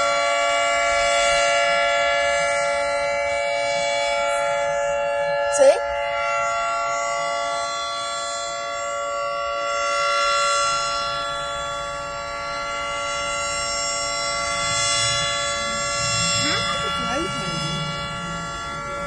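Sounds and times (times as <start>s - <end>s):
tornado warning siren: 0.0s - 19.0s.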